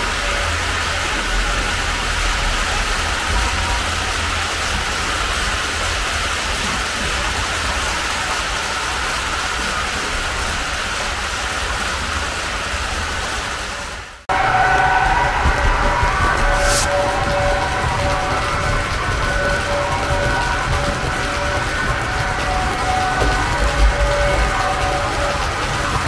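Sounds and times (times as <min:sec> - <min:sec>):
model trains running on track: 0:00.0 - 0:26.0.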